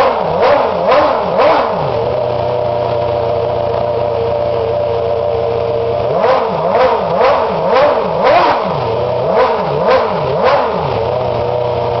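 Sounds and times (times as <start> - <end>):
racing car engine revving: 0.0 - 12.0.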